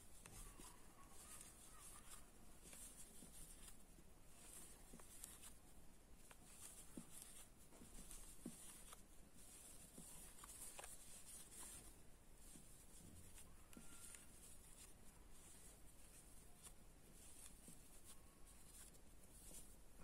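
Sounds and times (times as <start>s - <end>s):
yarn rustling on crochet hook: 0.0s - 20.0s.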